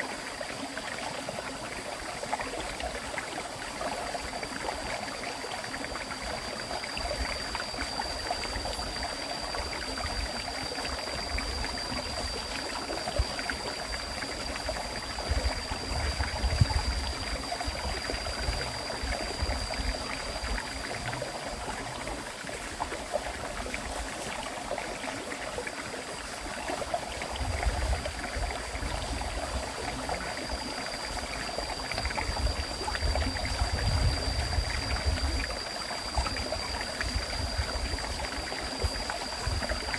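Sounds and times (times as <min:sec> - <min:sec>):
thin high steady tone: 0:00.0 - 0:39.9.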